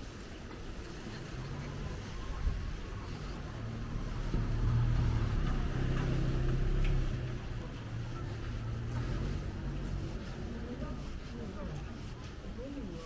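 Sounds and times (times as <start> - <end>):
vehicle engine rumble: 0.6 - 12.5.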